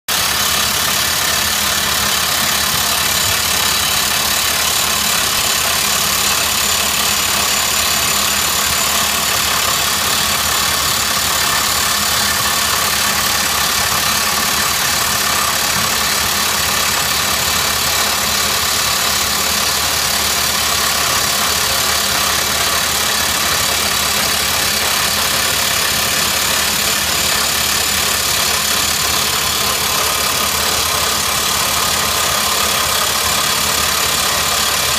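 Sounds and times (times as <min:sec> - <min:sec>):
rock drill hammering into rock: 0:00.1 - 0:34.9.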